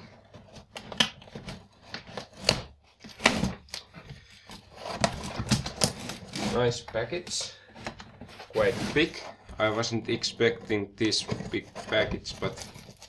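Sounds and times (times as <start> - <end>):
cardboard rustling: 0.0 - 13.0.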